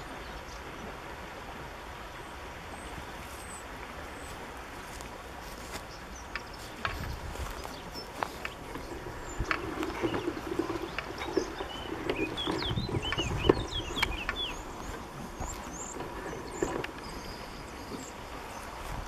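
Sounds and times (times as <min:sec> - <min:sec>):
low wind rumble: 0:00.0 - 0:19.0
small birds chirping: 0:02.7 - 0:19.0
outdoor rustling: 0:03.1 - 0:19.0.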